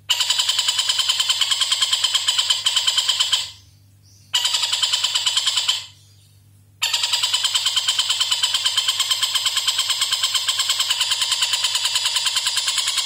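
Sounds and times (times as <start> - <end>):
bird giving harsh chattering call: 0.1 - 3.6, 4.3 - 6.0, 6.8 - 13.0.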